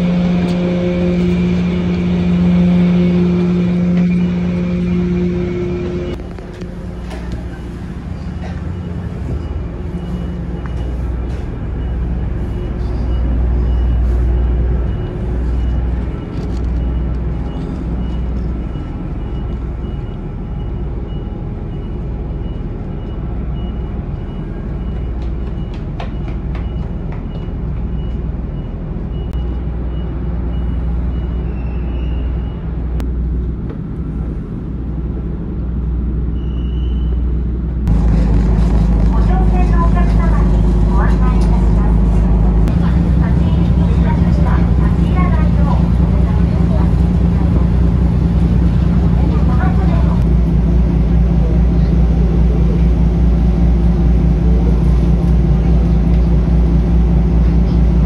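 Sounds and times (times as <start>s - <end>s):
ferry engine rumbling: 0.0s - 58.0s.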